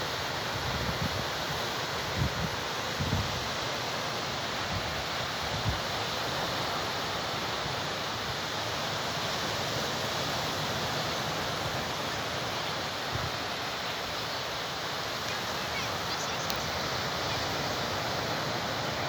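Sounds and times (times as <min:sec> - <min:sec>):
sea surf rushing: 0:00.0 - 0:19.0.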